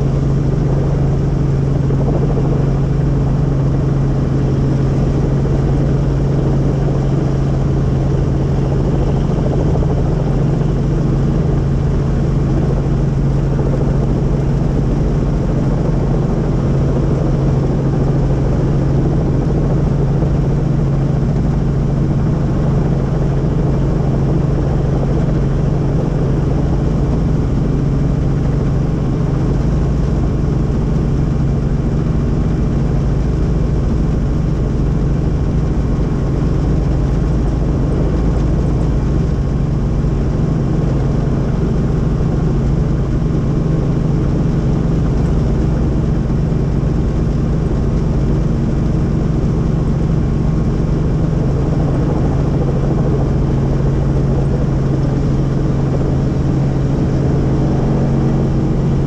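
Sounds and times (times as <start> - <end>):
helicopter engine and rotors droning: 0.0 - 59.0.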